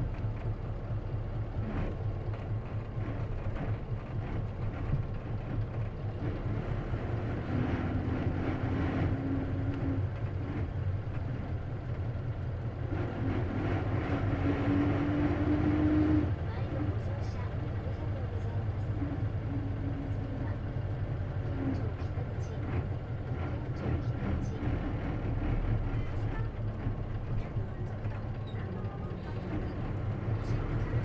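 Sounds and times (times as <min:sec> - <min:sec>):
bus engine and road rumble: 0:00.0 - 0:31.0.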